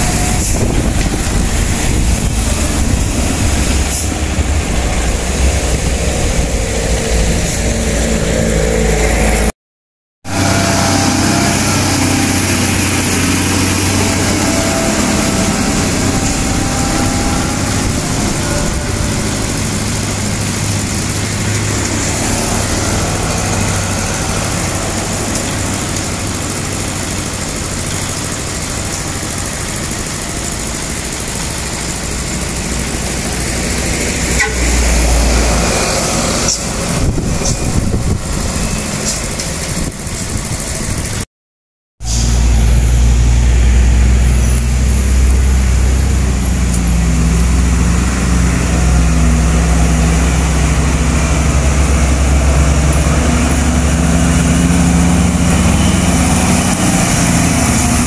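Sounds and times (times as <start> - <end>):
diesel truck engines labouring: 0.0 - 9.5, 10.3 - 41.3, 42.0 - 58.0.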